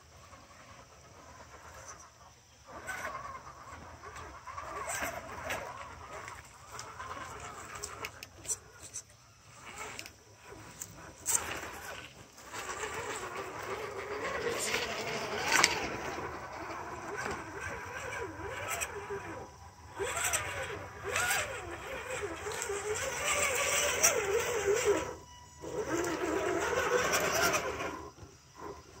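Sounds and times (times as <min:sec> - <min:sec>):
electric motor whining: 0:02.7 - 0:29.0.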